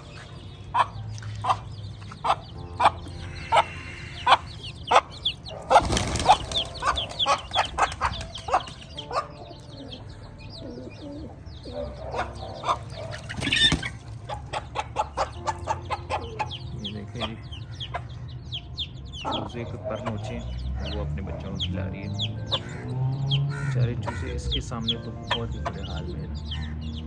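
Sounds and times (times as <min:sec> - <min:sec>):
chickens clucking: 0:00.0 - 0:27.0
chicks chirping: 0:00.0 - 0:27.0.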